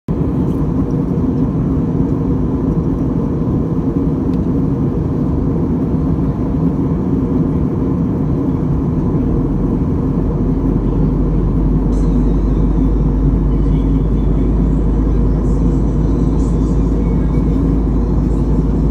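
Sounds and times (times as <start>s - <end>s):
airliner engines droning: 0.1s - 18.9s
faint constant hum: 0.1s - 18.9s.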